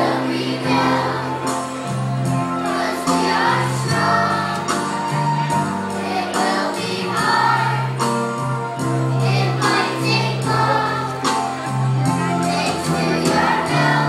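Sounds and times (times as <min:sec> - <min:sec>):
children's choir singing: 0:00.0 - 0:14.0
live musical accompaniment: 0:00.0 - 0:14.0.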